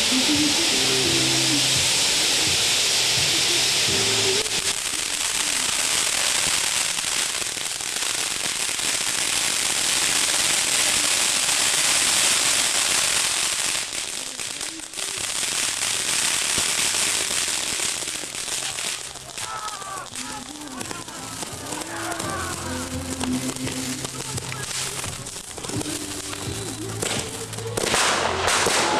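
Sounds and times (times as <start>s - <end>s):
firework fountains hissing and crackling: 0.0s - 28.9s.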